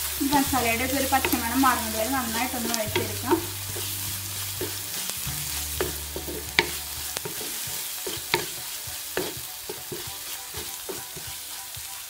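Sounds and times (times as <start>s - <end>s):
food sizzling in oil: 0.0s - 12.0s
wooden spatula scraping pot: 0.9s - 11.4s.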